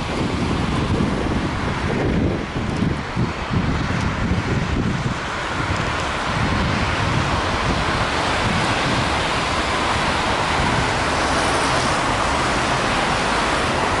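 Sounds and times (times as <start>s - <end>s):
road traffic hiss: 0.0s - 14.0s
wind buffeting microphone: 0.0s - 14.0s.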